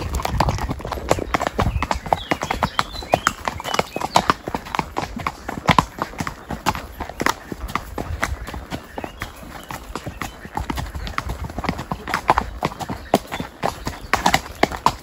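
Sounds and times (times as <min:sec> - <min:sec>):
hooves clopping on dirt: 0:00.0 - 0:15.0.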